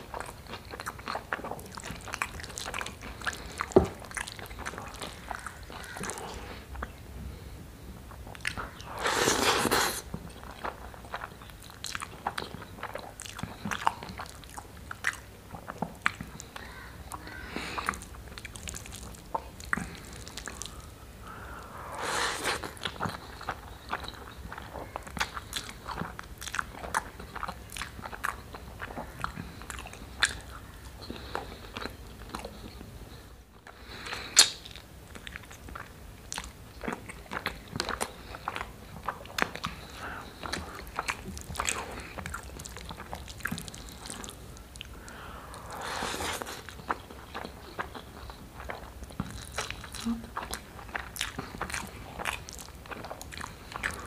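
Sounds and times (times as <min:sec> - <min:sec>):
wet chewing and lip smacks: 0:00.0 - 0:07.0, 0:08.1 - 0:54.0.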